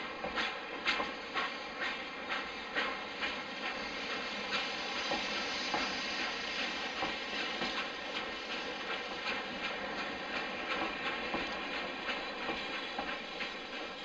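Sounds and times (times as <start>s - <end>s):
rail motor running: 0.0s - 14.0s
wheels clicking on rails: 0.0s - 14.0s.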